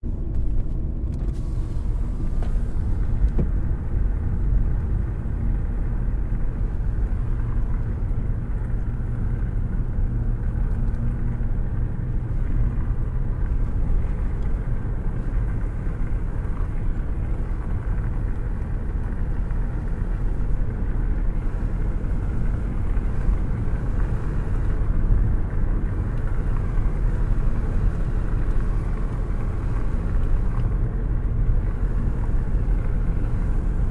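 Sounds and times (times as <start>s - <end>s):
car road and wind noise: 0.0s - 33.9s.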